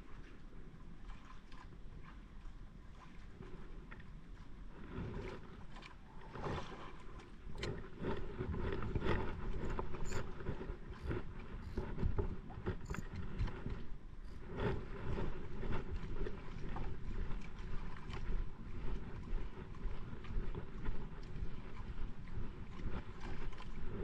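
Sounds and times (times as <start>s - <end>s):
water slapping against hull: 0.0s - 24.0s.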